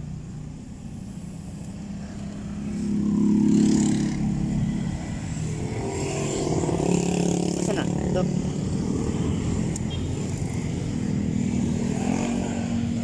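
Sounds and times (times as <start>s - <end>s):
low rumble of traffic: 0.0s - 13.0s
motor vehicle passing: 1.0s - 13.0s.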